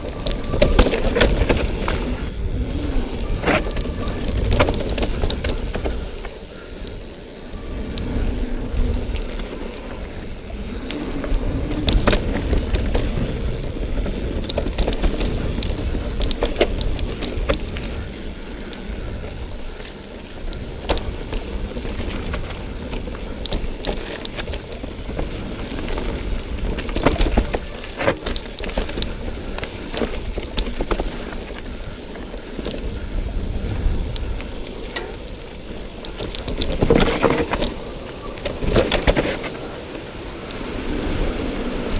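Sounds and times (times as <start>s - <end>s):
bike rattling over bumps: 0.0s - 41.9s
bike tyres rumbling on dirt: 0.0s - 41.9s
wind buffeting microphone: 0.0s - 41.9s.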